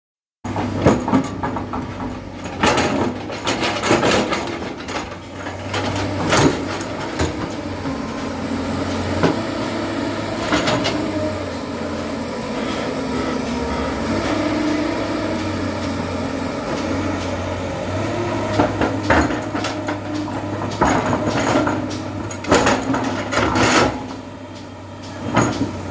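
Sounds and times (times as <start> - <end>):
metallic clanks and knocks: 0.5 - 9.4, 13.4 - 25.9
diesel engine running: 0.5 - 25.9.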